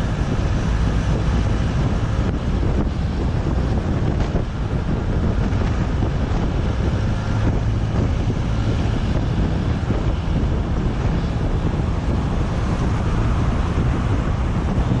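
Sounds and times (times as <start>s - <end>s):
road noise rumble: 0.0s - 15.0s
wind buffeting microphone: 0.0s - 15.0s.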